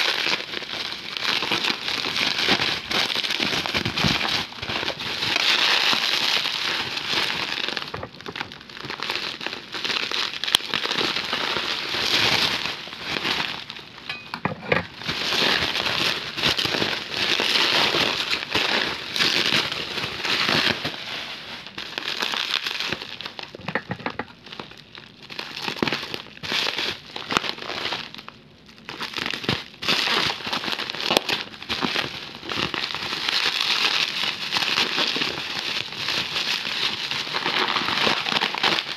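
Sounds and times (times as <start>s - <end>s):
bubble wrap crinkling: 0.0s - 38.9s.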